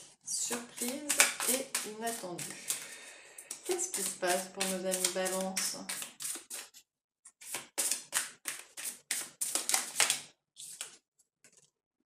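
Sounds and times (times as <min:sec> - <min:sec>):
cards being shuffled: 0:00.6 - 0:11.7.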